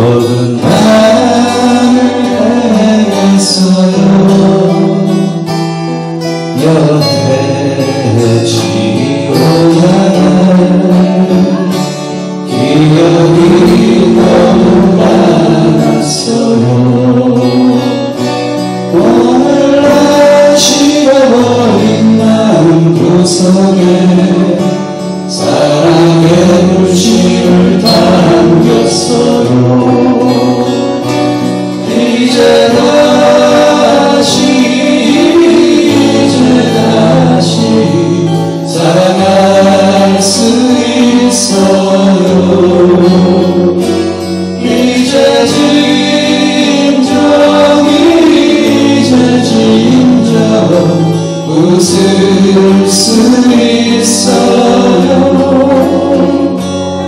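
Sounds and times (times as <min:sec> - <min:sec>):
men singing in harmony: 0:00.0 - 0:05.6, 0:06.2 - 0:57.0
strummed acoustic guitars: 0:00.0 - 0:57.0.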